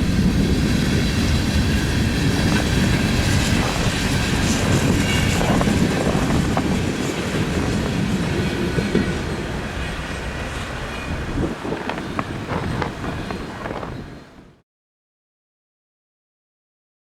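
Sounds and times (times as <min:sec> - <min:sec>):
train wheels clickety-clack: 0:00.0 - 0:14.6.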